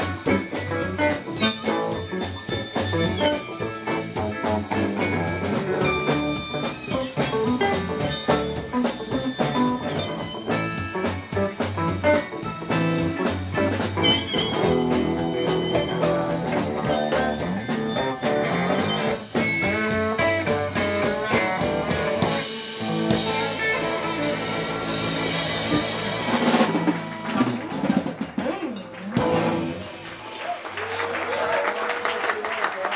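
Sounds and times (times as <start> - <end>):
electric blues band playing: 0.0 - 31.4.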